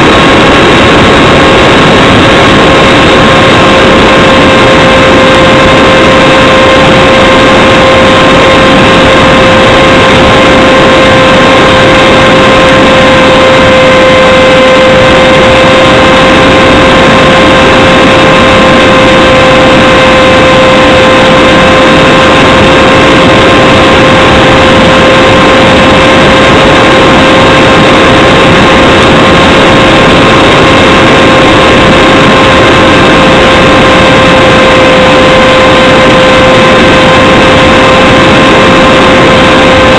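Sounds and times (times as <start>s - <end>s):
electric motor propeller whine: 0.0s - 39.9s
wind rushing over microphone: 0.0s - 39.9s.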